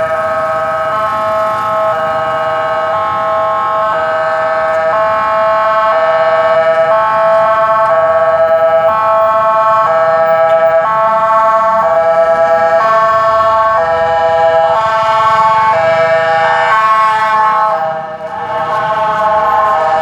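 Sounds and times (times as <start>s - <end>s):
two-tone emergency siren: 0.0s - 20.0s.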